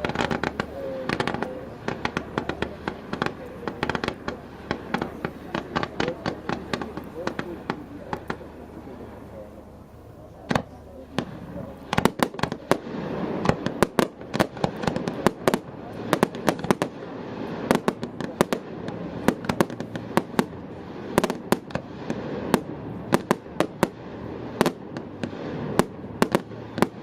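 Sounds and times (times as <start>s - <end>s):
fireworks bangs and crackles: 0.0s - 27.0s
low background rumble: 0.0s - 27.0s.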